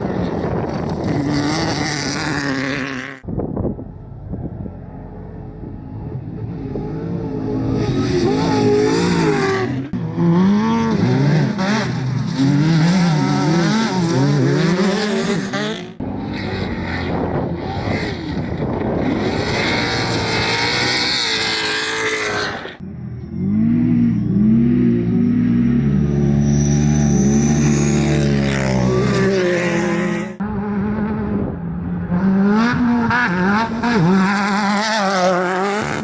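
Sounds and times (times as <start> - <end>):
race vehicle engines revving: 0.0 - 36.0.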